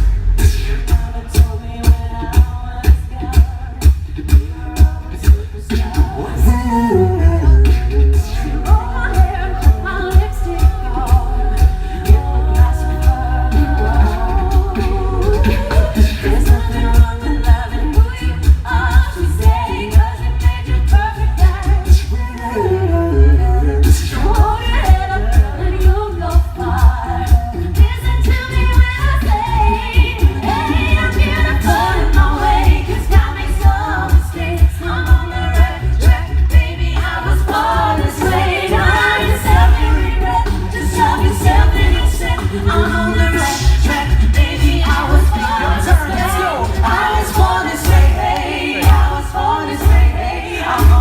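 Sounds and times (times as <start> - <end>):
a cappella group singing: 0.0 - 51.0
vocal percussion beat: 0.0 - 51.0.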